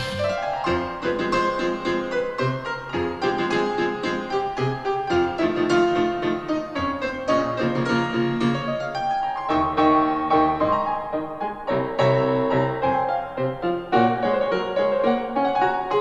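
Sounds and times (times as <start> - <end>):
piano music with bass line: 0.0 - 16.0.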